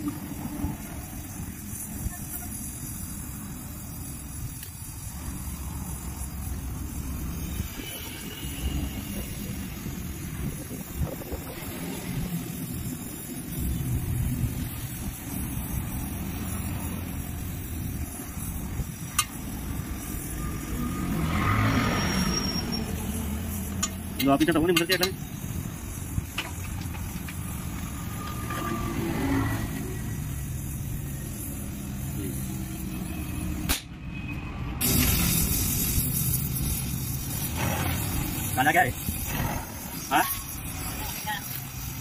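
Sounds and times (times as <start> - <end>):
welding torch hissing: 0.0 - 33.8, 34.8 - 42.0.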